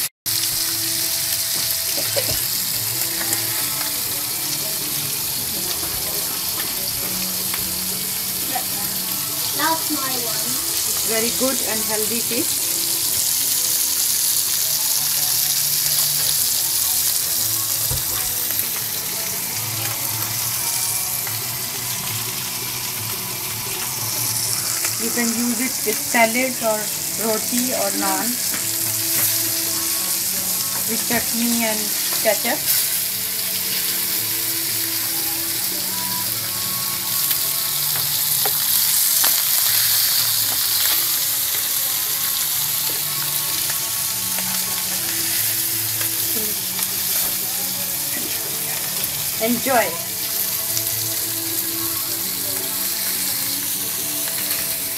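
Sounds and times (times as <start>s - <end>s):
fish sizzling in oil: 0.0s - 54.9s.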